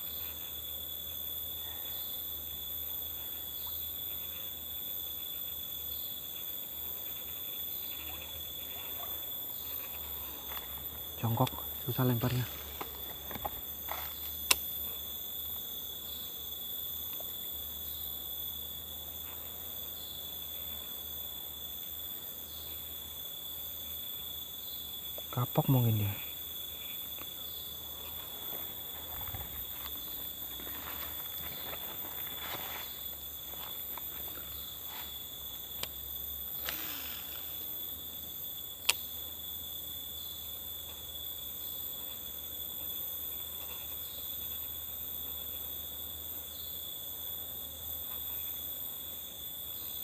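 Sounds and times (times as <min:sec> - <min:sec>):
insects shrill chorus: 0:00.0 - 0:50.0.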